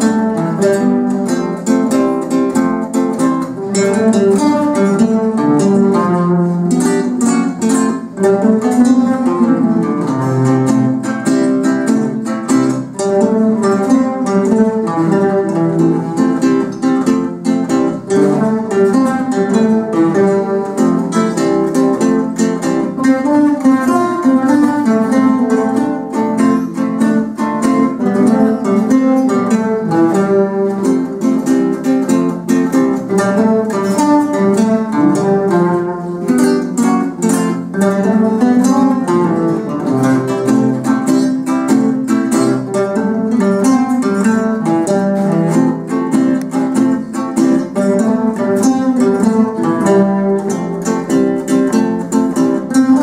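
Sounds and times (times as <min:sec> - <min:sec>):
classical guitar ensemble playing: 0:00.0 - 0:53.0.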